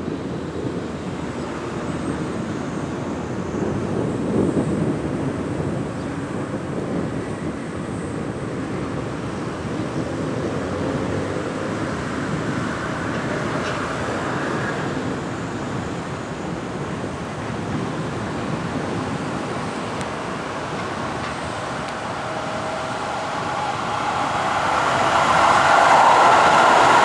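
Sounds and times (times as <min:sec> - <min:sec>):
electric train running on track: 0:00.0 - 0:27.0.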